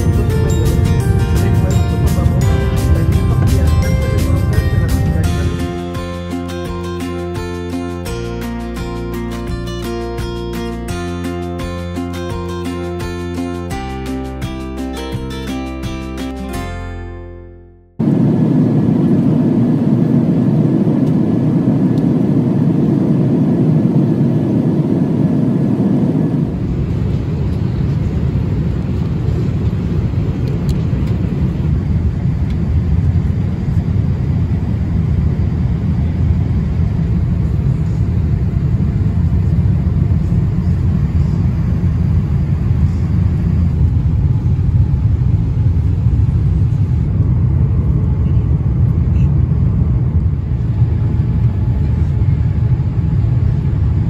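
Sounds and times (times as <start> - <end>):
jet engine cabin drone: 0.0 - 16.6, 18.0 - 54.0.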